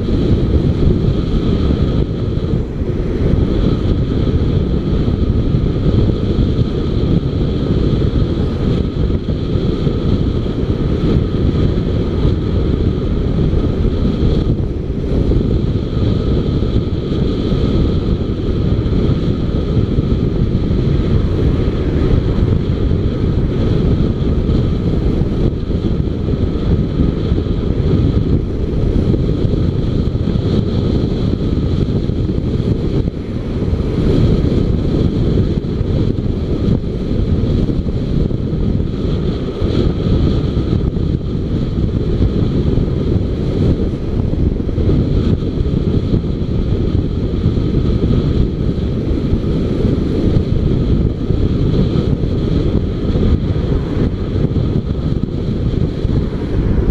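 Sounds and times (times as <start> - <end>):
motorcycle engine: 0.0 - 56.9
road noise: 0.0 - 56.9
wind rumble on microphone: 0.0 - 56.9.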